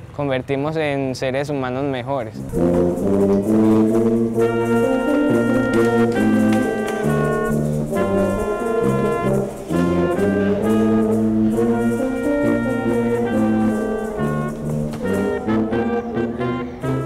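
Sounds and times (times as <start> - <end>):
brass ensemble playing chords: 2.3 - 17.0.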